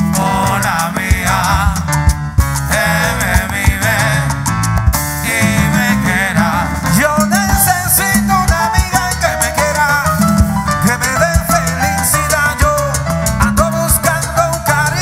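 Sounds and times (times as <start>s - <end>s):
person singing: 0.0s - 4.5s, 5.2s - 15.0s
busy percussion: 0.0s - 15.0s
live salsa band: 0.0s - 15.0s.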